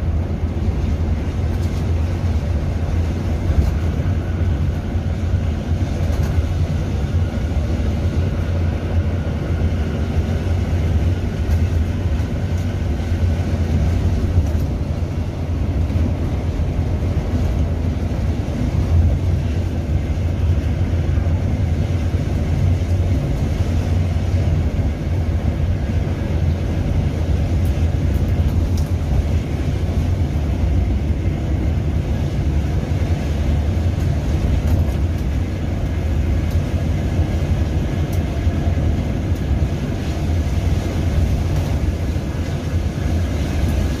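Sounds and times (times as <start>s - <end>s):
bus engine and road roar: 0.0s - 44.0s.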